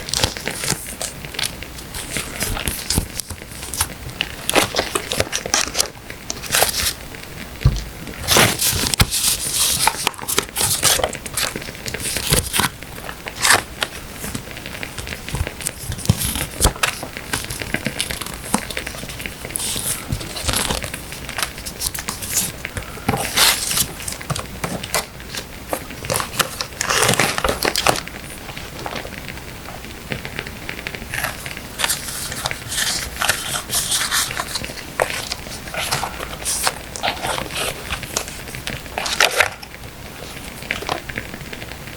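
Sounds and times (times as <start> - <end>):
paper and stickers rustling: 0.0 - 7.0, 7.6 - 41.9
firewood crackling: 0.0 - 41.9.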